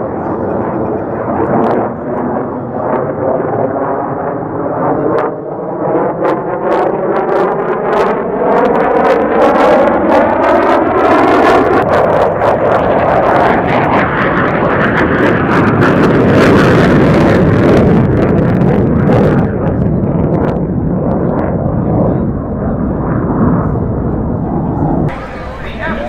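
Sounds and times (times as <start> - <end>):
fighter jet flyby roar: 0.0 - 19.8, 21.4 - 26.0
afterburner roar with crackling: 0.0 - 26.0.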